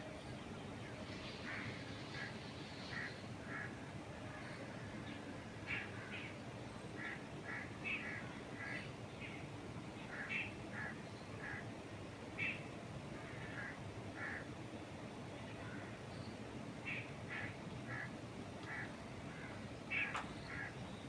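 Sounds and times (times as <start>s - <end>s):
wind through trees: 0.0s - 21.0s
birds calling: 0.5s - 11.7s, 12.4s - 14.6s, 15.5s - 21.0s.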